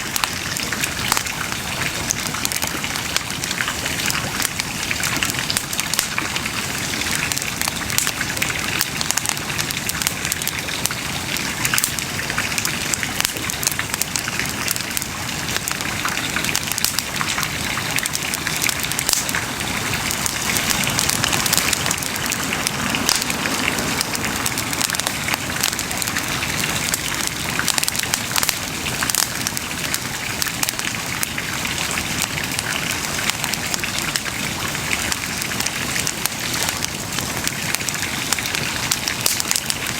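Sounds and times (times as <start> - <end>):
bonfire crackling: 0.0 - 39.9.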